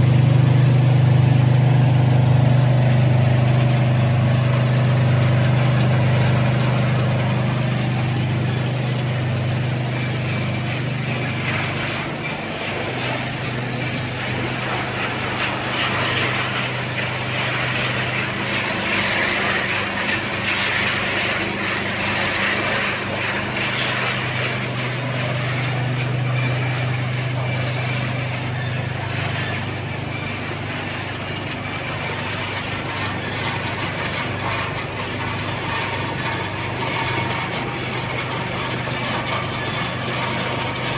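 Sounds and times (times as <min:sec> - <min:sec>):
dense machinery noise: 0:00.0 - 0:40.9
machinery low hum: 0:00.0 - 0:40.9.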